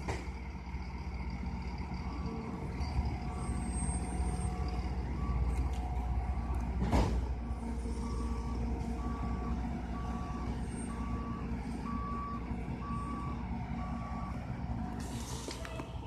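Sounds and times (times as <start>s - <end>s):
diesel engine running: 0.0s - 16.0s
truck reversing alarm beeps: 0.0s - 16.0s.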